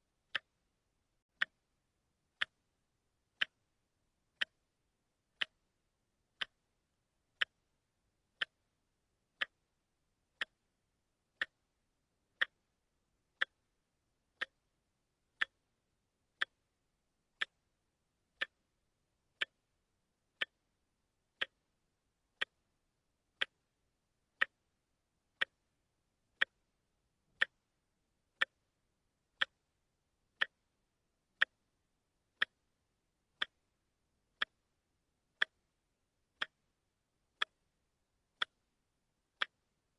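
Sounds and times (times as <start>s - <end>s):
watch ticking: 0.2s - 0.6s, 1.3s - 1.7s, 2.3s - 39.9s.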